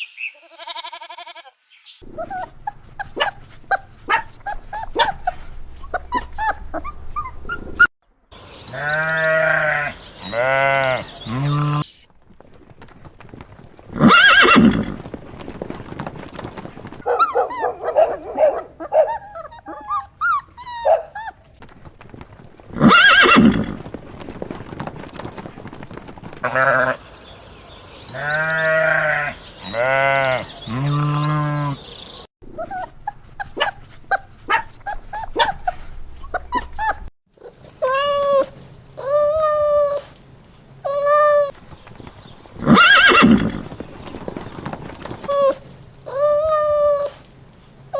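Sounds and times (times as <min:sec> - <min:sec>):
farm animal calls: 0:00.0 - 0:15.1, 0:16.5 - 0:24.0, 0:26.3 - 0:27.2, 0:28.1 - 0:40.1, 0:40.8 - 0:47.3.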